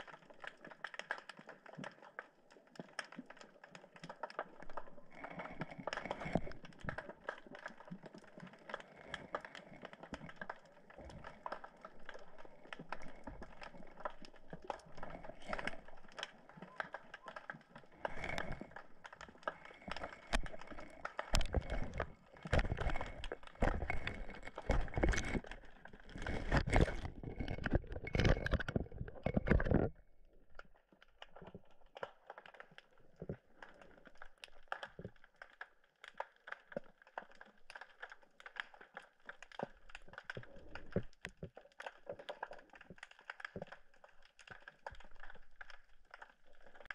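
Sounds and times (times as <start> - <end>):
underwater crackling and clicking: 0.0 - 46.9.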